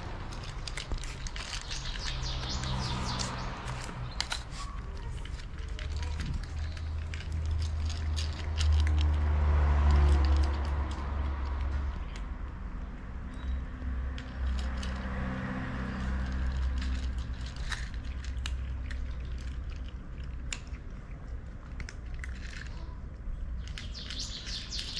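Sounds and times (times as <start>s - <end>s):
cats crunching dry kibble: 0.0s - 12.7s, 14.1s - 24.9s.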